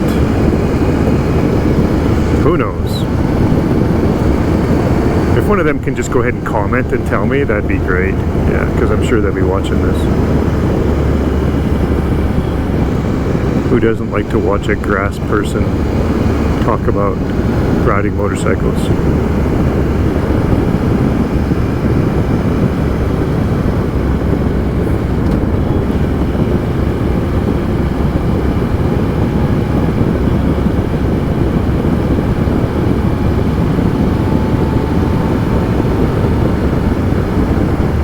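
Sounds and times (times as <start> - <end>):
motorcycle engine at speed: 0.0 - 38.0
wind and road rush: 0.0 - 38.0.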